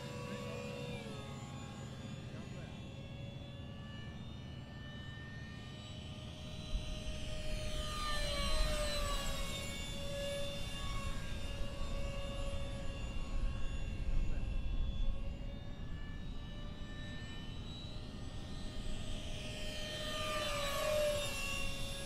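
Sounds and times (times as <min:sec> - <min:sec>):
model jets whining flying past: 0:00.0 - 0:22.0.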